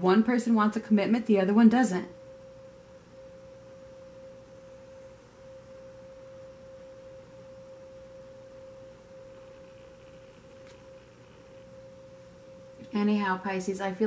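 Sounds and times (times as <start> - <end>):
faint low hum: 0.0 - 14.0
steady pure tone: 0.0 - 14.0.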